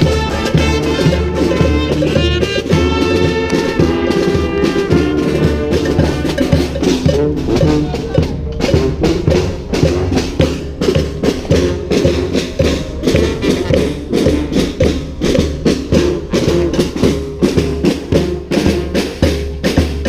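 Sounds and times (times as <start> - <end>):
drums keeping steady beat: 0.0 - 20.0
horns playing melody: 0.0 - 20.0.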